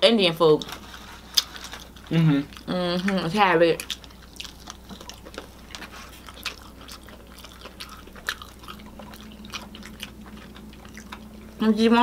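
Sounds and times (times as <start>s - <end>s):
people chewing: 0.5s - 12.0s.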